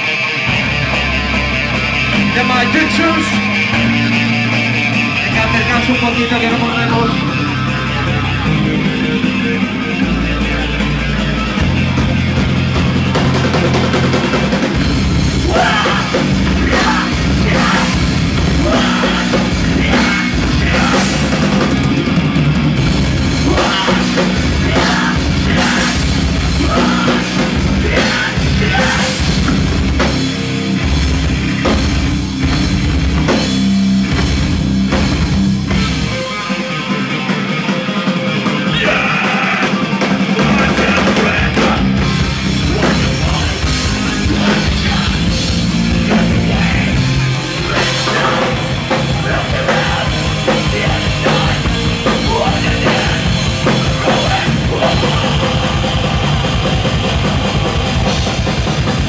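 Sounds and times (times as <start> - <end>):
bass guitar: 0.0 - 59.0
distorted electric guitar: 0.0 - 59.0
drum kit: 0.0 - 59.0.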